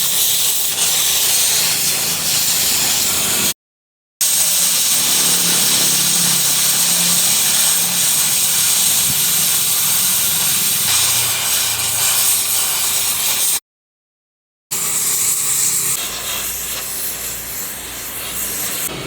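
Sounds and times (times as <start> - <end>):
power tool hissing and humming: 0.0 - 3.6, 4.2 - 13.6, 14.8 - 19.0.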